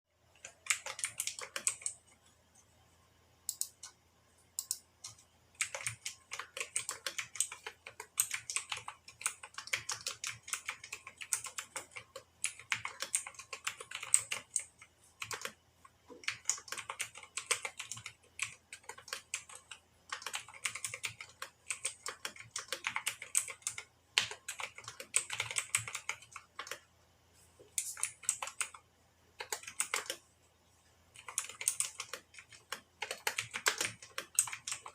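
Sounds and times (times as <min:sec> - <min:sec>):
mechanical keyboard typing: 0:00.3 - 0:02.1, 0:03.5 - 0:04.0, 0:04.6 - 0:26.9, 0:27.7 - 0:30.2, 0:31.1 - 0:34.9.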